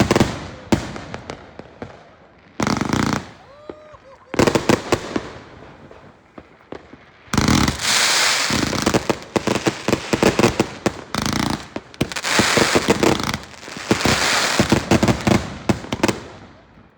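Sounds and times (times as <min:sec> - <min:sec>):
firecrackers banging and crackling: 0:00.0 - 0:01.8, 0:02.6 - 0:16.7.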